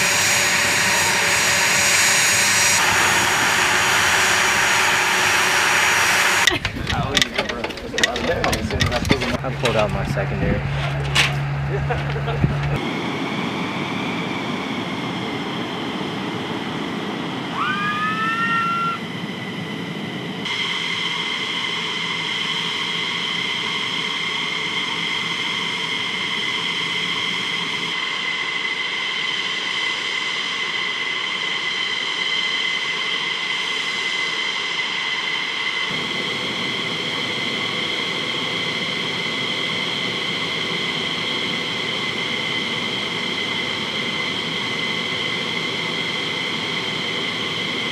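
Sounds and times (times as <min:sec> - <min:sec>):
jet engines idling: 0:00.0 - 0:47.9.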